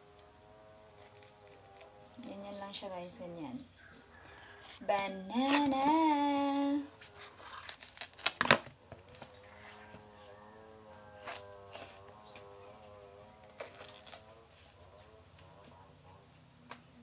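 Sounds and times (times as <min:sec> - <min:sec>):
bananas being peeled and split: 0:00.1 - 0:02.4, 0:03.9 - 0:17.0.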